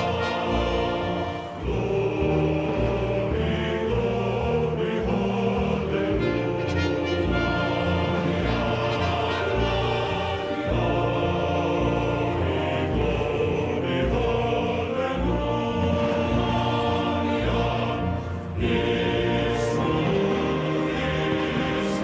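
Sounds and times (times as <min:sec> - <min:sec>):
choir singing held chords: 0:00.0 - 0:22.0
orchestral music: 0:00.0 - 0:22.0.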